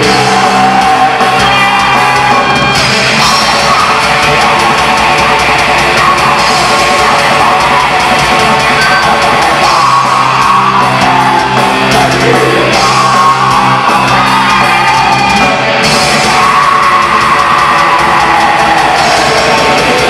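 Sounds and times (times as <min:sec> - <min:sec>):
metal band playing live: 0:00.0 - 0:20.0.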